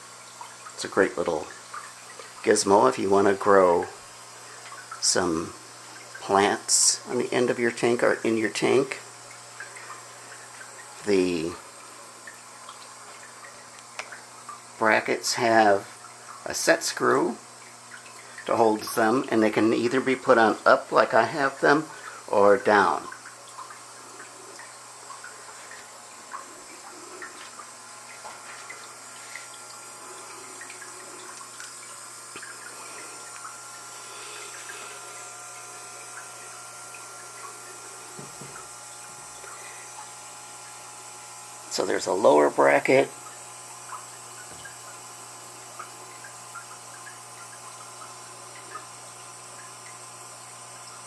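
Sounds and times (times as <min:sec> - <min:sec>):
drip-like ticks: 0:00.0 - 0:20.7, 0:21.8 - 0:41.7, 0:43.0 - 0:51.0
low steady hum: 0:00.0 - 0:50.9
aquarium water splashing and trickling: 0:00.0 - 0:51.0.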